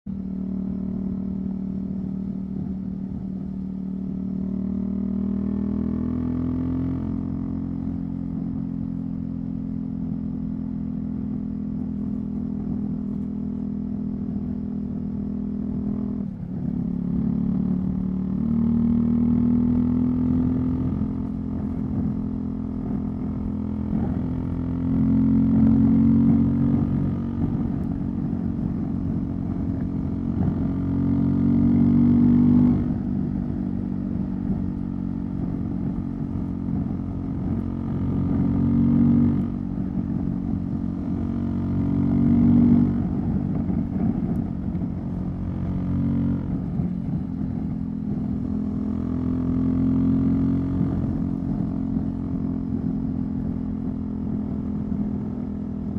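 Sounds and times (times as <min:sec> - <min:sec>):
motorcycle engine revving: 0:00.1 - 0:55.9.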